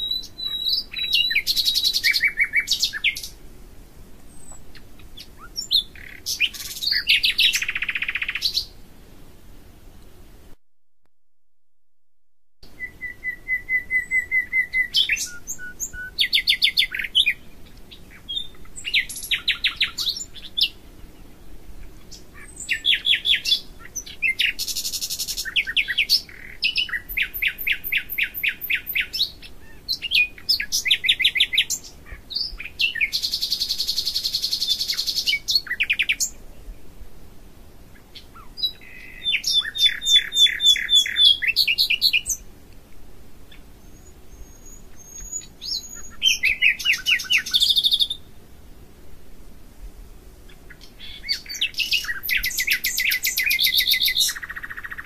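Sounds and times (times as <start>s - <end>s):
songbirds singing: 0.0s - 8.9s, 12.6s - 48.5s, 50.3s - 55.0s.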